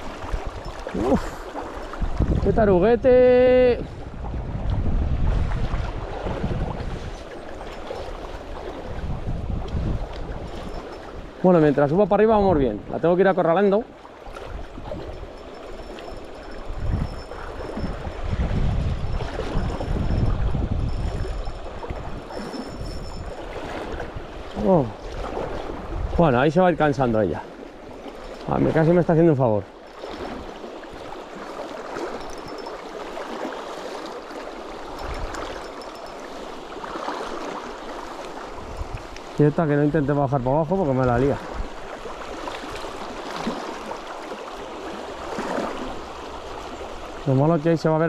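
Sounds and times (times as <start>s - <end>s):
river water rushing: 0.0s - 3.6s, 5.5s - 48.0s.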